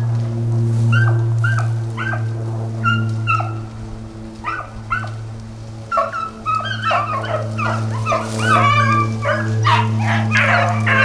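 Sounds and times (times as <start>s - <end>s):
dogs baying: 0.0s - 11.0s
steady low hum: 0.0s - 11.0s.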